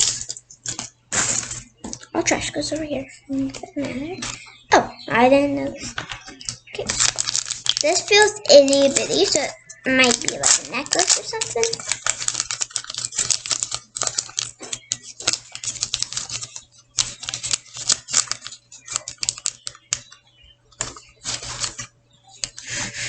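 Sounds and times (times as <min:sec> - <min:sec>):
plastic wrapper crinkling: 0:00.0 - 0:02.8, 0:05.8 - 0:23.0.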